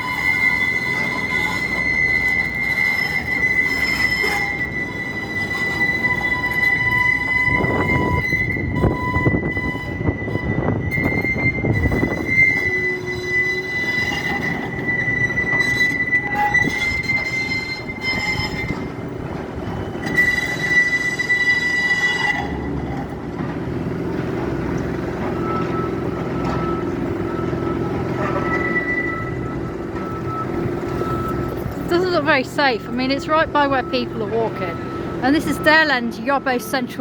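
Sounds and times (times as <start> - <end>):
low street and machinery rumble: 0.0 - 37.0
tram wheels squealing: 0.0 - 37.0.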